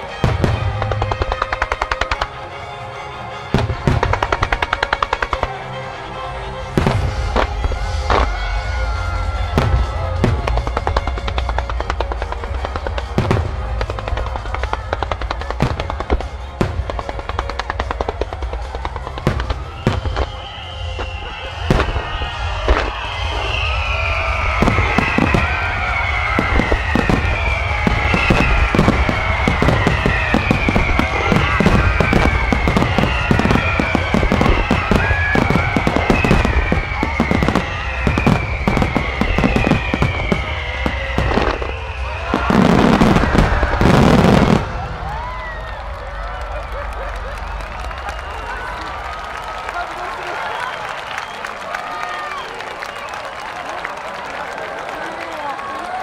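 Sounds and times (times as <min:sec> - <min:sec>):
music playing: 0:00.0 - 0:52.0
fireworks bangs and crackles: 0:00.0 - 0:56.0.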